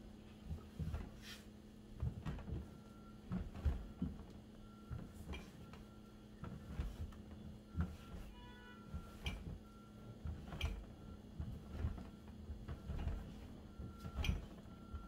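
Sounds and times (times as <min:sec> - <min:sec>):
dough kneaded by hand thumping: 0:00.0 - 0:15.0.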